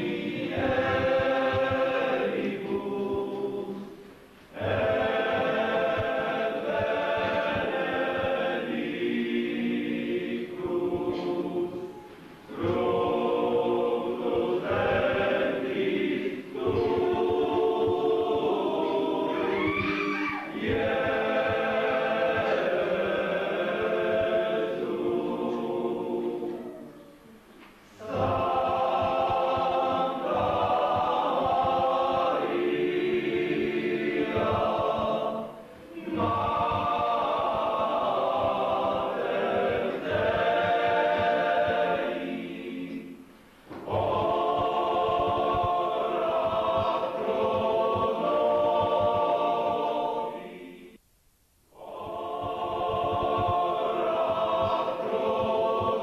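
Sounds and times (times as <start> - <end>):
many voices singing a hymn: 0.0 - 51.0, 51.7 - 56.0.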